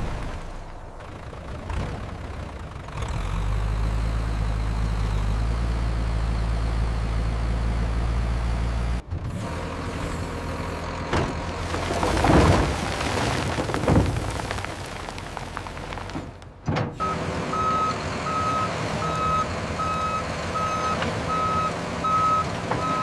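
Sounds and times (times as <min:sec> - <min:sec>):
heavy engine humming: 0:00.0 - 0:23.0.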